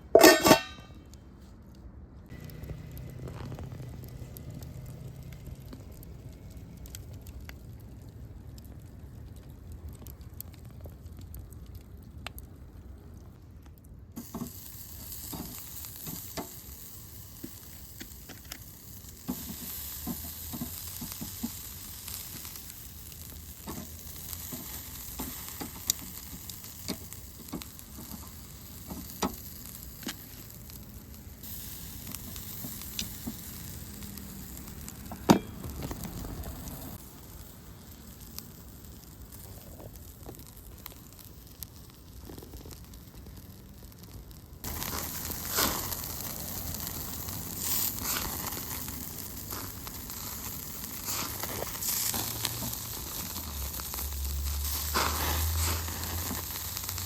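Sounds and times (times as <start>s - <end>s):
food sizzling in a hot pan: 2.3s - 7.4s, 14.2s - 44.0s, 44.6s - 57.0s.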